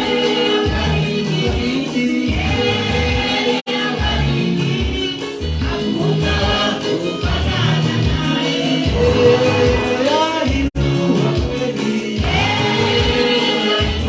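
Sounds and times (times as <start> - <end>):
gospel worship music with singing: 0.0 - 14.0.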